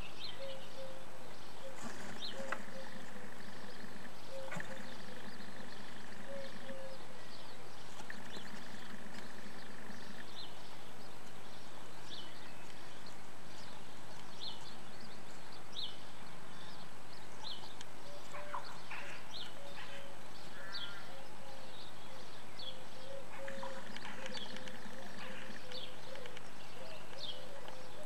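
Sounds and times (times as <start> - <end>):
microphone hiss: 0.0 - 28.0.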